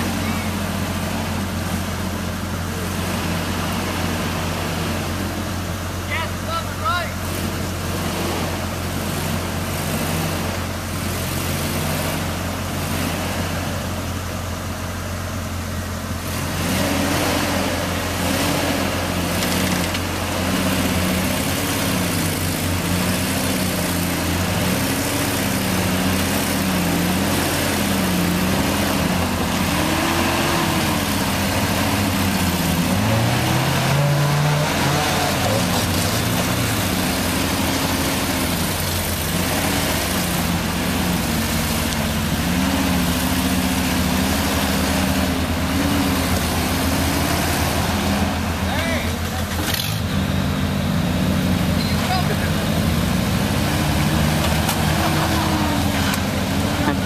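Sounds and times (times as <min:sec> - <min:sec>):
pickup engine revving under load: 0:00.0 - 0:06.5, 0:07.2 - 0:57.0.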